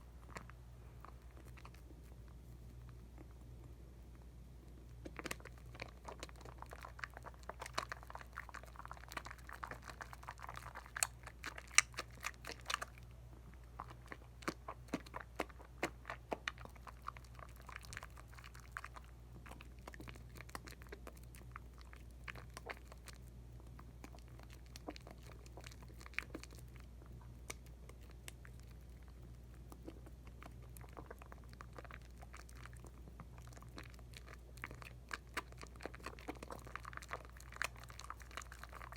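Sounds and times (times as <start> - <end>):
soap lather squishing and crackling: 0.0 - 38.9.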